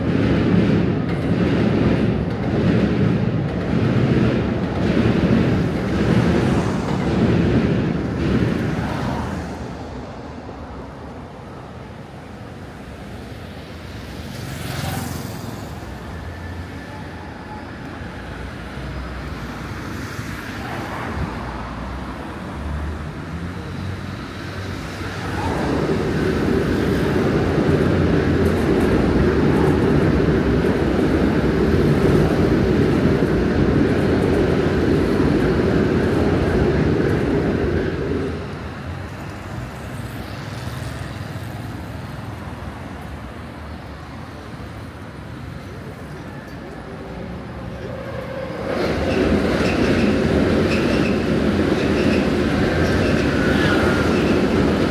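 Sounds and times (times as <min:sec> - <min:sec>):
city street traffic: 0:00.0 - 0:54.9.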